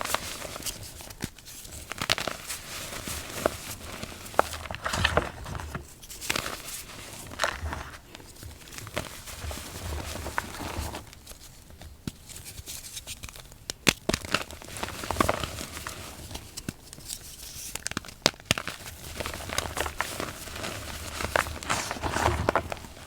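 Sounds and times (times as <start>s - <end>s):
powdery crumble: 0.0s - 12.4s, 13.4s - 23.0s.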